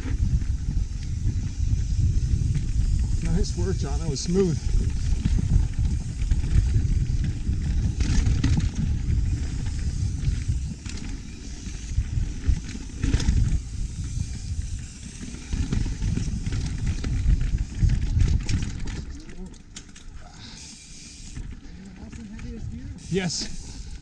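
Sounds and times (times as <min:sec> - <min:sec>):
wind buffeting microphone: 0:00.0 - 0:19.4, 0:21.2 - 0:24.0
bike rattling over roots: 0:00.0 - 0:24.0
bike tyres on dirt: 0:00.0 - 0:24.0.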